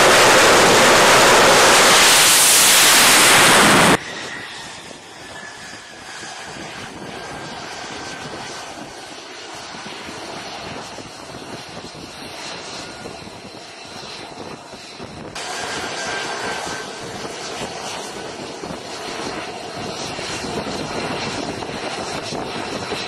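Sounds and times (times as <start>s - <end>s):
jet engine rushing: 0.0s - 23.0s.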